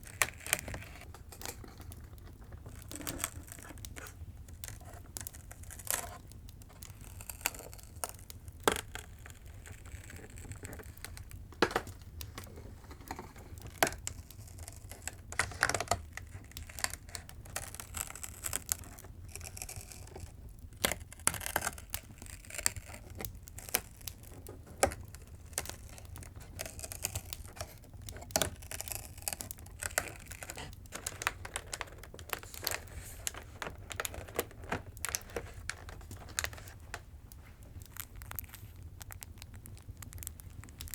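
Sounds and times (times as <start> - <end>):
paper crinkling: 0.0 - 40.9.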